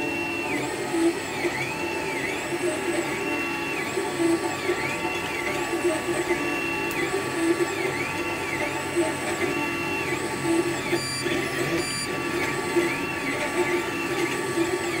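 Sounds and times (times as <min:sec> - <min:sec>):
steady mechanical hum: 0:00.0 - 0:15.0
stepper motors whining: 0:00.0 - 0:15.0.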